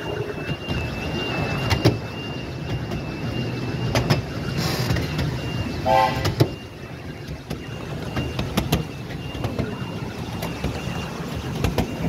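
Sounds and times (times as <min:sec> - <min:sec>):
train low rumble: 0:00.0 - 0:12.0
wheels clicking over rails: 0:00.0 - 0:12.0.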